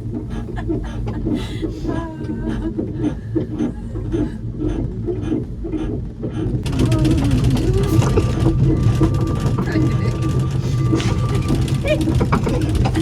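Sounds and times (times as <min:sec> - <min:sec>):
small train wavering hum: 0:00.0 - 0:13.0.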